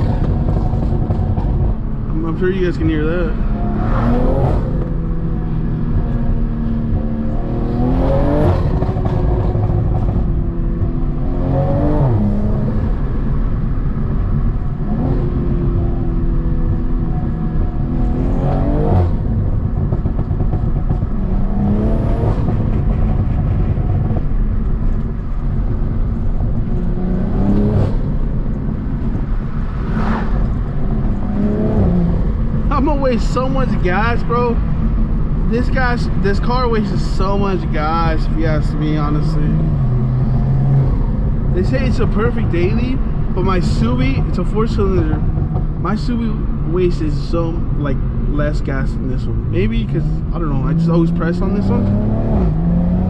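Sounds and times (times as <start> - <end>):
car engine accelerating through gears: 3.3 - 53.0.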